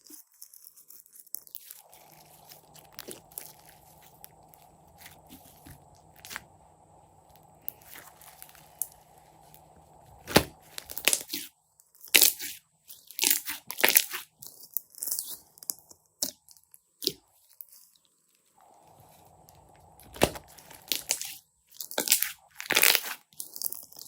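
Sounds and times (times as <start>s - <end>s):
slime crackling and crunching: 0.0s - 17.9s, 18.7s - 24.0s.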